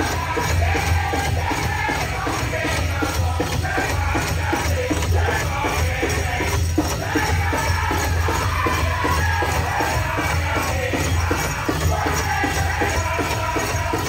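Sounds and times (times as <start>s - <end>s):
big drum steady beat: 0.0s - 14.0s
jingling metallic bells: 0.0s - 14.0s
singers singing: 0.0s - 14.0s.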